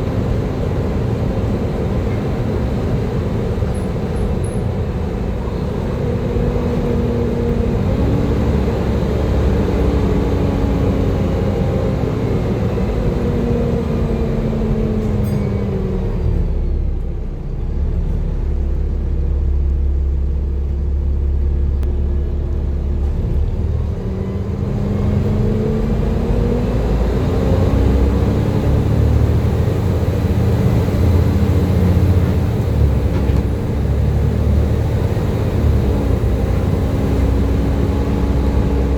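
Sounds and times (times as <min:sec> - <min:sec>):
bus diesel engine: 0:00.0 - 0:38.9.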